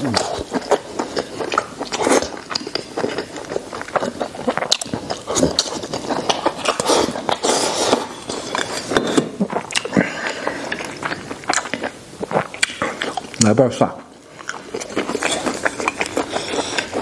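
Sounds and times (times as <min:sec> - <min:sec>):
man chewing and smacking lips: 0:00.0 - 0:17.0.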